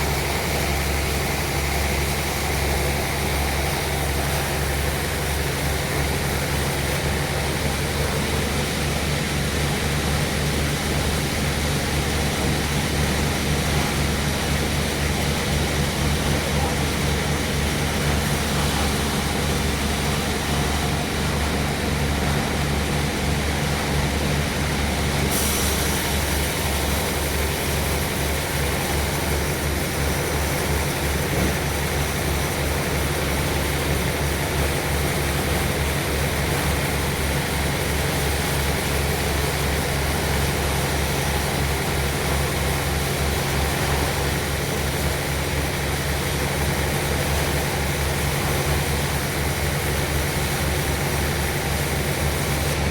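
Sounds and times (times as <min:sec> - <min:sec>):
sawmill machinery drone: 0:00.0 - 0:52.9.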